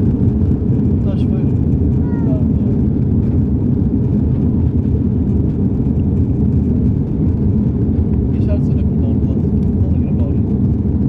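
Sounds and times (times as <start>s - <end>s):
airplane cabin jet engine rumble: 0.0s - 11.0s.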